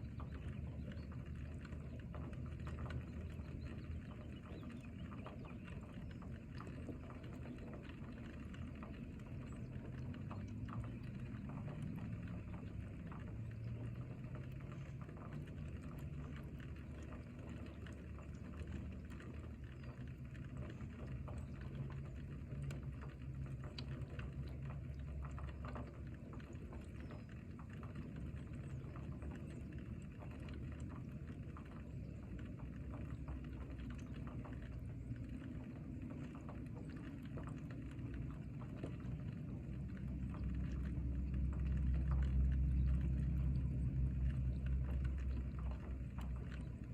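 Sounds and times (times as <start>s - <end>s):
steady rain falling: 5.2s - 46.9s.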